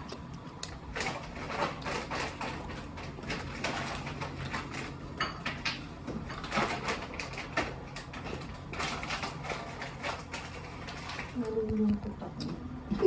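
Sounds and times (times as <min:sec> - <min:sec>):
crunching and chewing food: 0:00.0 - 0:12.7.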